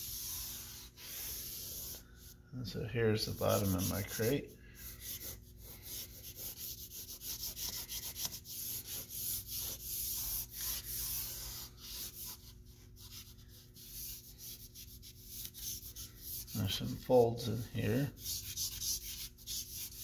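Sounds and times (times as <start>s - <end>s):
charcoal scratching on paper: 0.0s - 2.4s, 3.2s - 17.2s, 18.1s - 20.0s.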